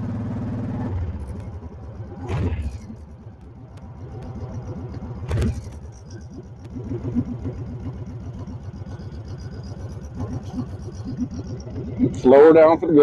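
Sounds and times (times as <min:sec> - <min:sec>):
motorcycle engine throbbing: 0:00.0 - 0:13.0.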